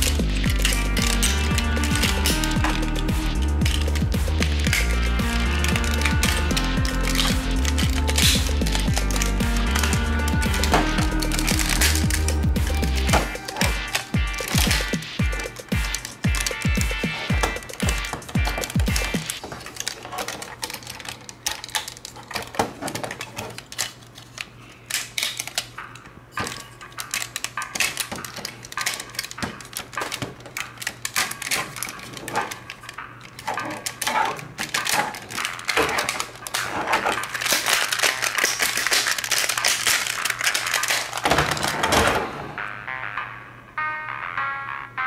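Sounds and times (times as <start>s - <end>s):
plastic toy parts clicking: 0.0s - 42.2s.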